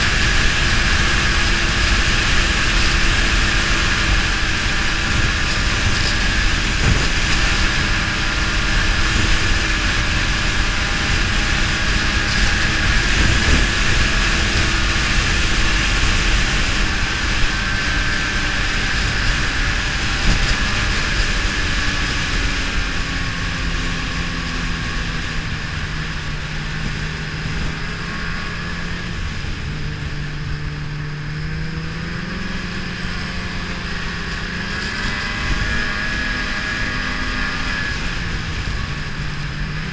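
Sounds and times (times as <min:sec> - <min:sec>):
snowmobile engine running: 0:00.0 - 0:39.9
wind noise: 0:00.0 - 0:39.9.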